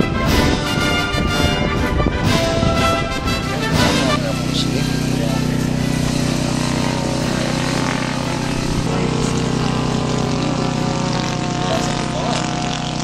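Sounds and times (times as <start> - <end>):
model airplane engine droning: 0.0 - 13.0.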